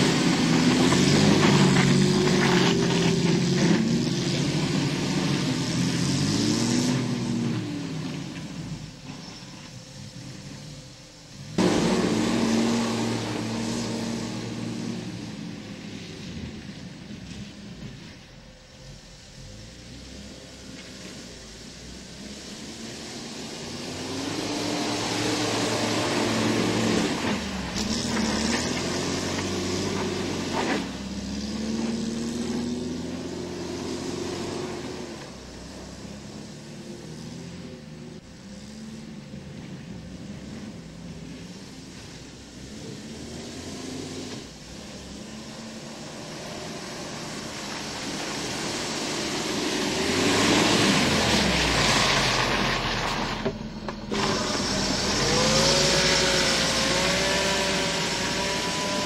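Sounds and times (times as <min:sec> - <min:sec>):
car engine revving: 0:00.0 - 0:59.0
tyres hissing in snow: 0:00.0 - 0:59.0.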